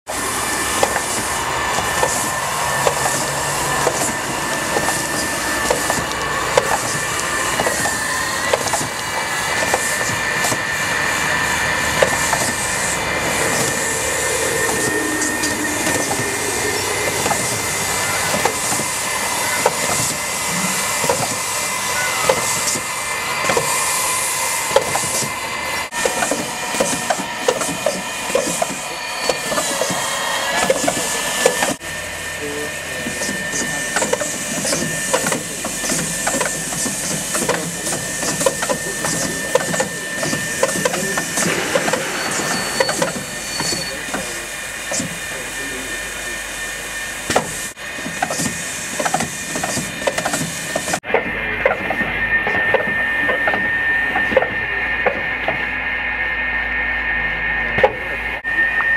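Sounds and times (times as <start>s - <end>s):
robot machinery whining and hissing: 0.2s - 51.0s.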